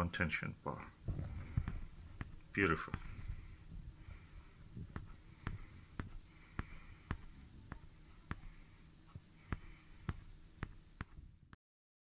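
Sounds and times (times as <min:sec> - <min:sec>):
faint low rumble: 0:00.8 - 0:11.5.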